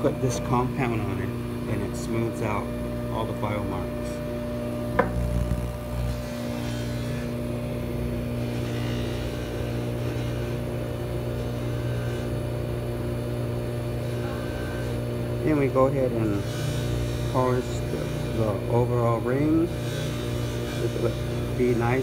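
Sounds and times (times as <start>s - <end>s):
polishing motor humming: 0.0s - 22.0s.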